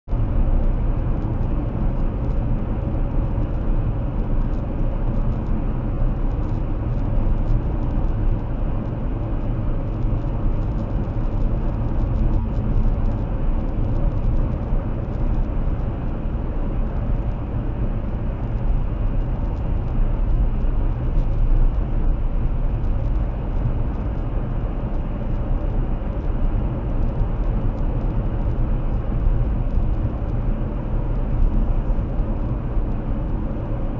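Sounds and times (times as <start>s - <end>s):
car tyre and wind rumble: 0.1s - 33.9s.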